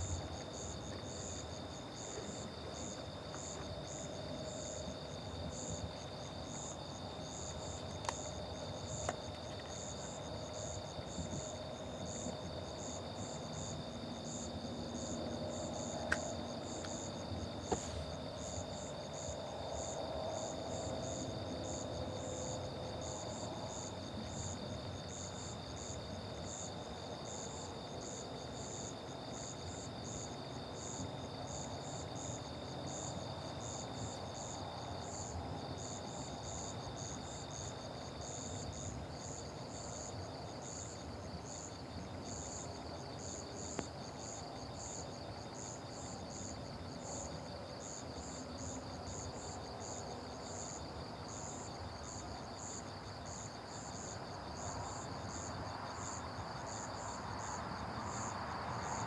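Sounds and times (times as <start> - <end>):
insects chirping: 0.0 - 59.0
steady high insect trill: 0.0 - 59.0.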